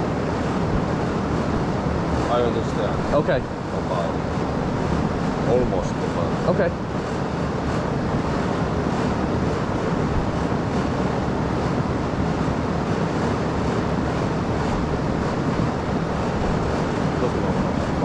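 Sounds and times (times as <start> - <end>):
air conditioning unit rushing: 0.0 - 18.0.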